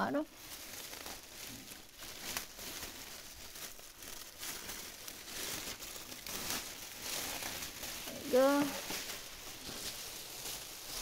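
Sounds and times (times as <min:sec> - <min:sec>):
plastic bag crinkling and rustling: 0:00.0 - 0:11.0.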